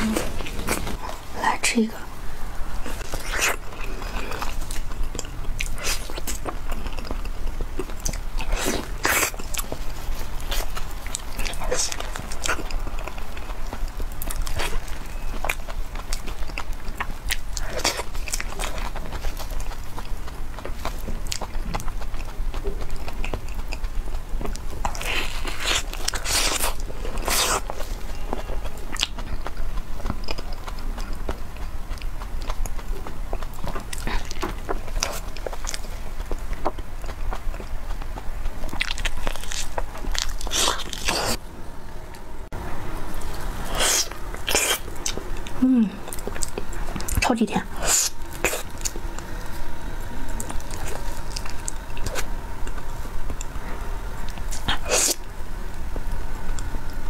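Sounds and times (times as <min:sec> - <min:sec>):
person biting and chewing: 0:02.8 - 0:41.4, 0:43.2 - 0:47.2, 0:47.8 - 0:49.6, 0:50.4 - 0:53.5.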